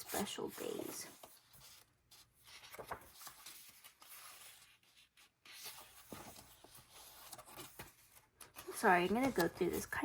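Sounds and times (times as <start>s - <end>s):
paper pages being turned: 0.0s - 10.0s.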